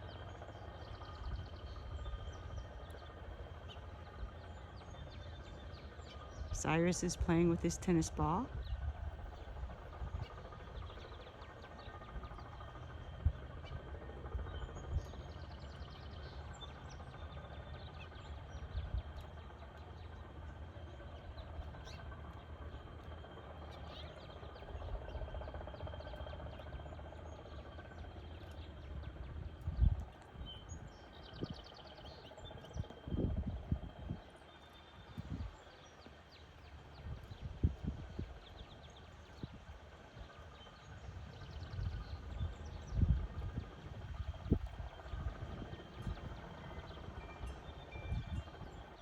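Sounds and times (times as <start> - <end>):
faint bird chirps and trills: 0.0 - 49.0
low steady rumble: 0.0 - 49.0.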